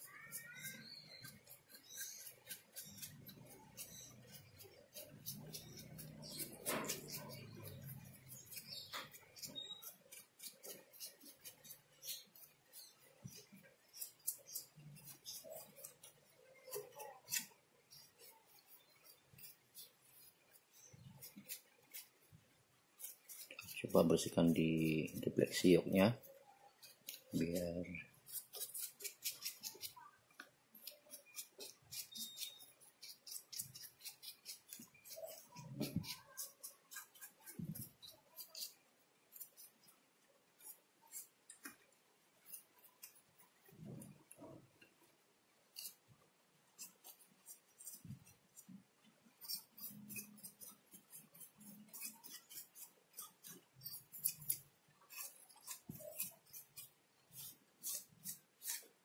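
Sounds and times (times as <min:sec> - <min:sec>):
faint scratchy brushing: 0:00.1 - 0:59.0.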